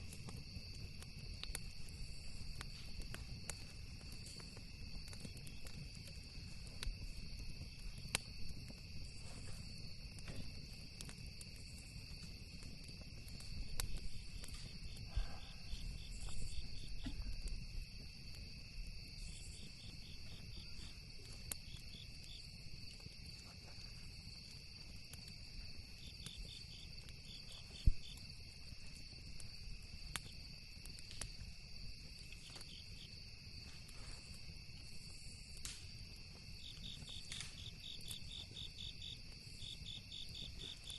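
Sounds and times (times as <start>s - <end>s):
campfire crackling and popping: 0.0s - 40.9s
crickets trilling: 0.0s - 40.9s.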